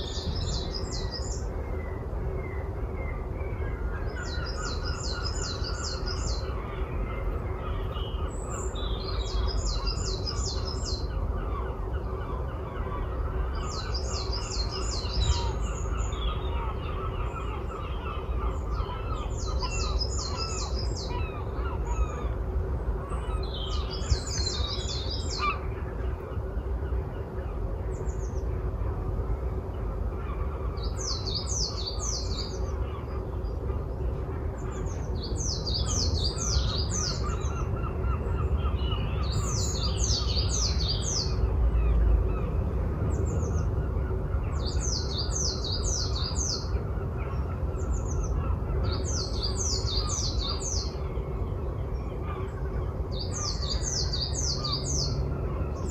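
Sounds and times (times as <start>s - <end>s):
other bird calls: 0.0s - 55.9s
steady low rumble: 0.0s - 55.9s.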